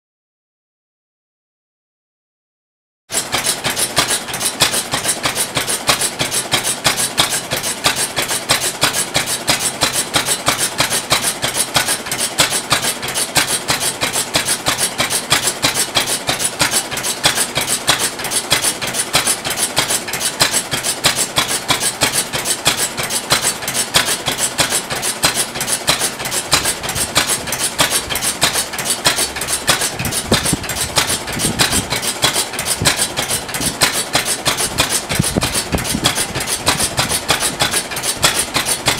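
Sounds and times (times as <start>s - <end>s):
oil engine clattering: 3.1s - 38.9s.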